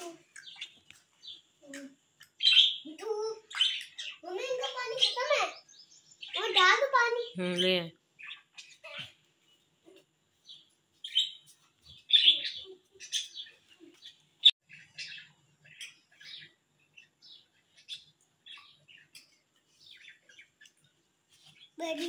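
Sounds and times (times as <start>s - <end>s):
budgerigars chirping and chattering: 0.3s - 9.2s, 9.9s - 22.0s.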